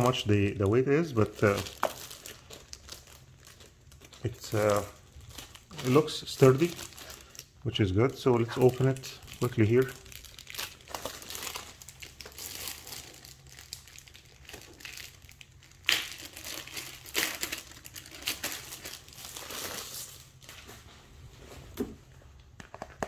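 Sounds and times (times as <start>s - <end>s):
plastic bag crinkling: 0.0s - 20.8s.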